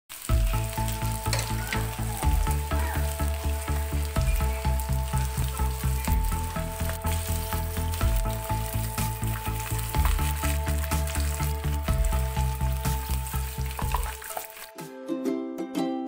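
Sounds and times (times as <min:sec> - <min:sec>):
chicken deep-frying in oil: 0:00.1 - 0:14.8
background music with steady beat: 0:00.3 - 0:16.0.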